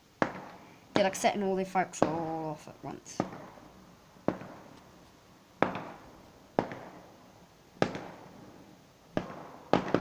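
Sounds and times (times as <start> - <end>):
fireworks exploding: 0.0 - 5.0, 5.6 - 10.0.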